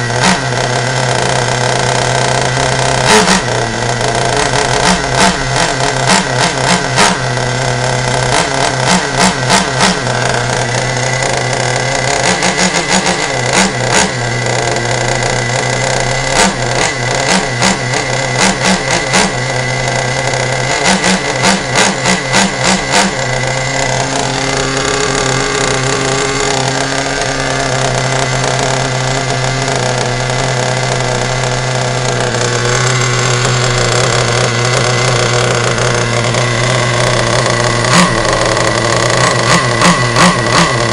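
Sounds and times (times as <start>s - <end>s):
model car engine revving and idling: 0.0s - 40.9s.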